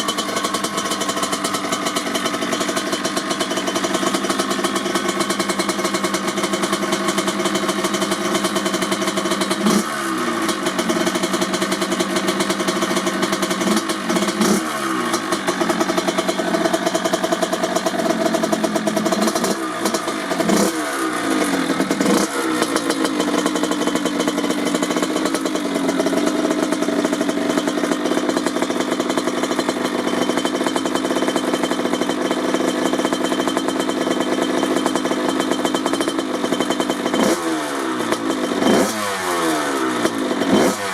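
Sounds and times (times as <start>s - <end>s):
two-stroke engine idling: 0.0s - 40.9s.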